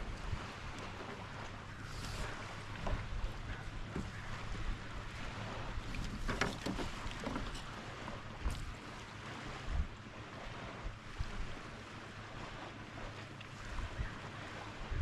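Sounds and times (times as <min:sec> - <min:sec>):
water lapping around kayak: 0:00.0 - 0:15.0
wind rumbling on microphone: 0:00.0 - 0:15.0.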